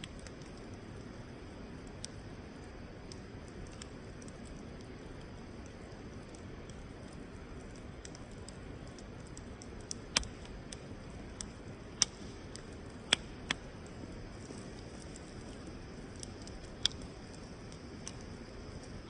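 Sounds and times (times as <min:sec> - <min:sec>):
campfire crackling and popping: 0:00.0 - 0:19.0
steady background hiss: 0:00.0 - 0:19.0.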